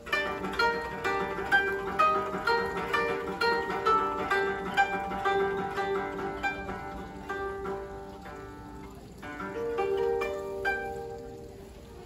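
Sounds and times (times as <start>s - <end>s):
koto plucked notes: 0.0s - 12.0s.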